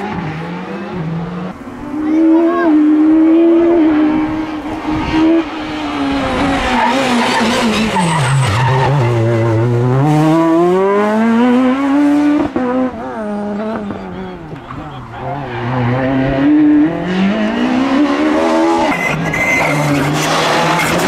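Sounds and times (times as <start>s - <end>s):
rally car engine revving: 0.0s - 21.0s
tyres skidding: 0.0s - 21.0s.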